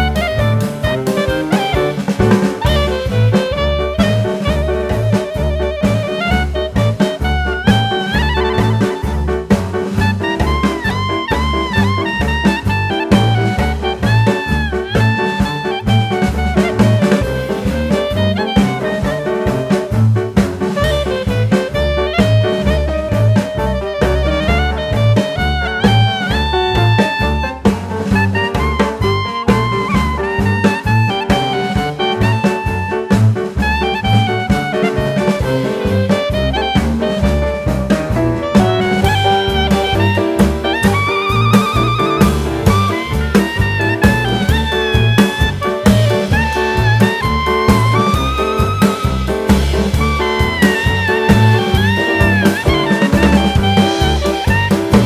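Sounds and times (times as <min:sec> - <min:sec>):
up-tempo jazz with saxophone: 0:00.0 - 0:55.0.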